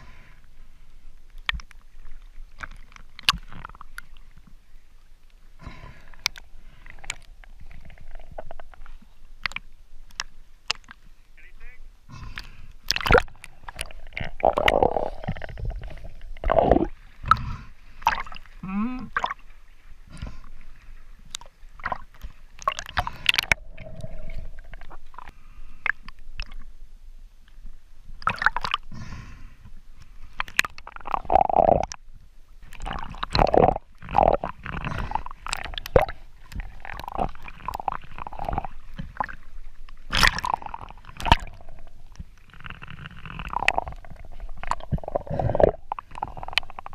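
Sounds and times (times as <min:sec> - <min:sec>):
water sloshing and gurgling: 0:00.0 - 0:46.9
splashy clicks and bubbling: 0:01.3 - 0:04.6, 0:05.7 - 0:19.5, 0:21.2 - 0:26.7, 0:28.2 - 0:28.9, 0:30.0 - 0:46.9.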